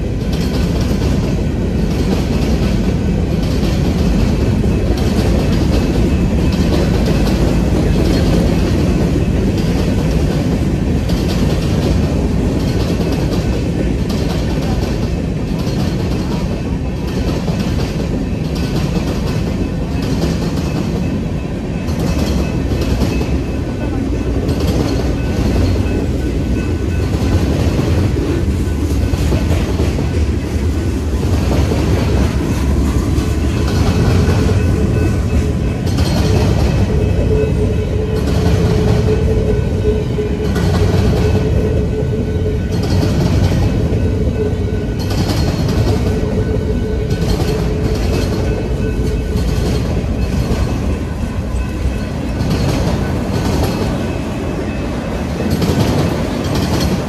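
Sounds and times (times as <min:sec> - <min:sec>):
steel wheels rumbling on rail: 0:00.0 - 0:57.0
train wheels clacking: 0:00.0 - 0:57.0.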